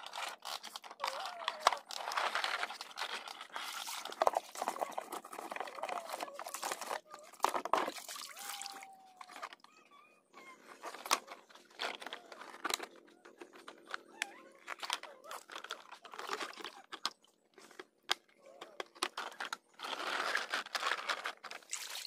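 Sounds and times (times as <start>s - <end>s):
plastic toy parts knocking and clicking: 0.0s - 8.0s, 10.8s - 21.7s.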